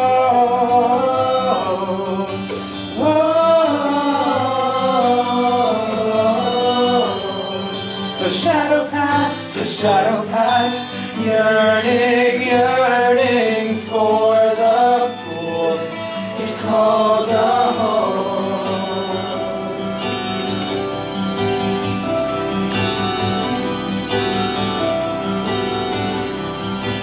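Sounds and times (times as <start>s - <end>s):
wordless voices singing: 0.0s - 27.0s.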